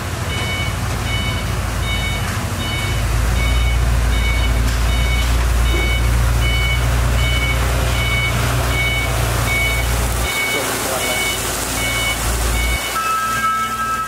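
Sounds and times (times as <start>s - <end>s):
heavy machine engine rumble: 0.0s - 14.0s
reversing alarm beeping: 0.2s - 14.0s.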